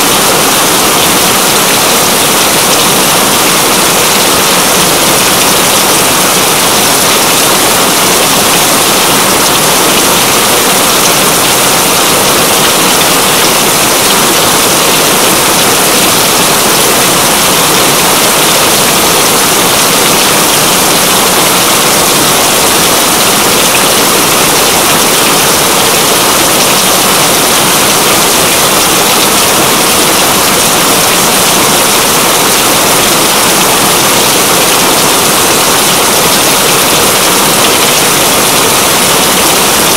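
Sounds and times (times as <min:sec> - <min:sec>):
loud rainfall: 0:00.0 - 0:39.9.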